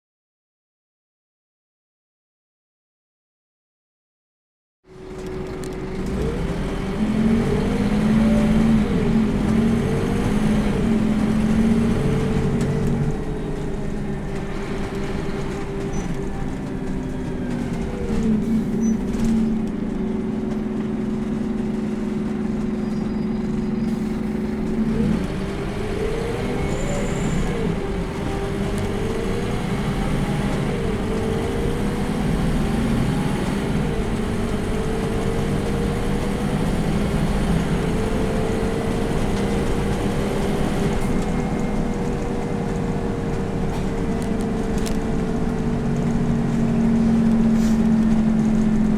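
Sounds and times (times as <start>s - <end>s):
bus diesel engine pulling through gears: 4.9s - 48.9s.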